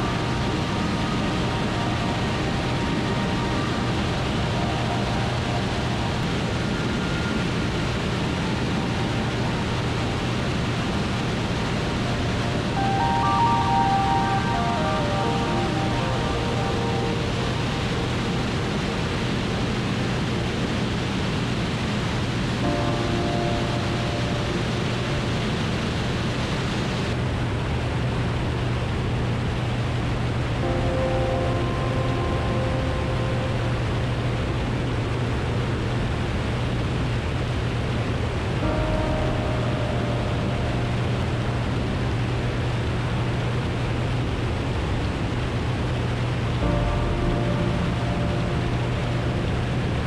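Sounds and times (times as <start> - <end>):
airplane engine drone: 0.0 - 50.0.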